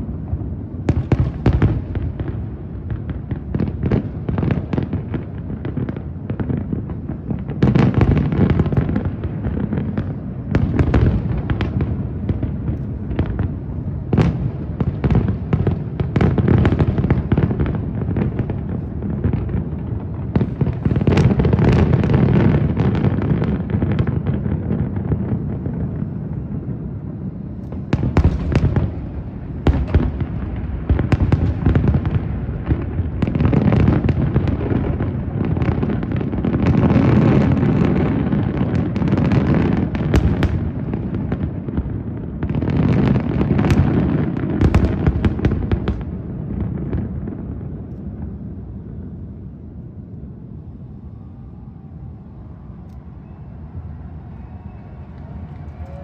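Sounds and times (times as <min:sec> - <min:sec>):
fireworks bangs: 0:00.0 - 0:56.0
fireworks rumble and crackle: 0:00.0 - 0:56.0.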